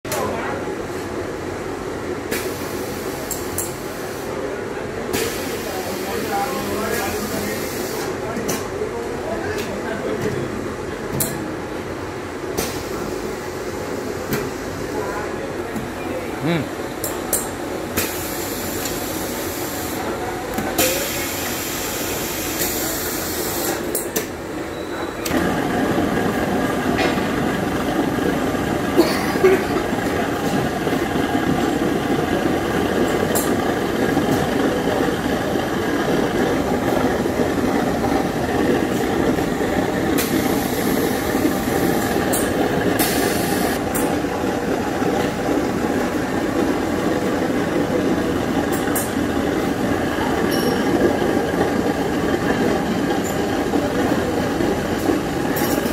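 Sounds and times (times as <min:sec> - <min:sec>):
conveyor and blower whirring: 0:00.1 - 0:55.9.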